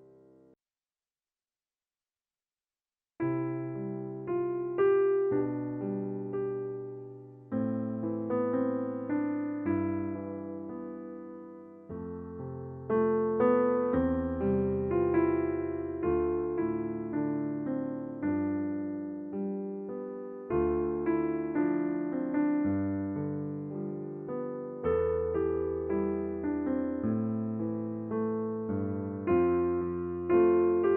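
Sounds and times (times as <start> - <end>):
gentle piano music: 3.2 - 30.9.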